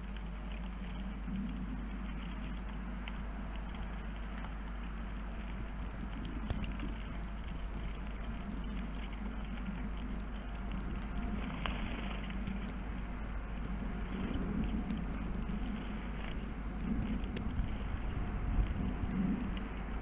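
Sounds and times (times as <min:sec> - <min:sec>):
faint ticks and taps: 0:00.0 - 0:20.0
low hum: 0:00.0 - 0:20.0.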